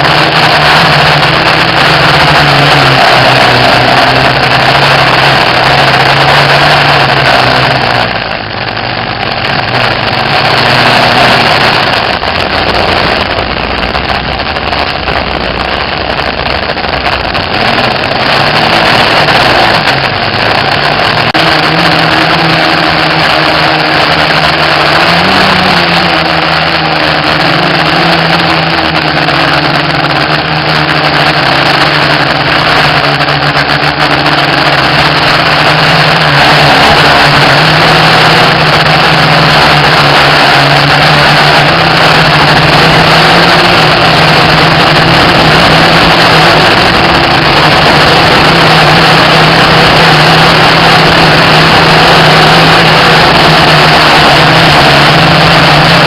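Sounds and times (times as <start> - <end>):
quadcopter motors buzzing: 0.0 - 56.0
wind noise: 0.0 - 56.0.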